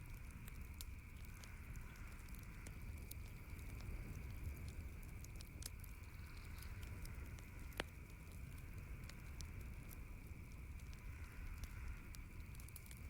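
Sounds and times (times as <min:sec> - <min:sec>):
campfire crackling: 0:00.0 - 0:13.0
faint hiss and low rumble: 0:00.0 - 0:13.0.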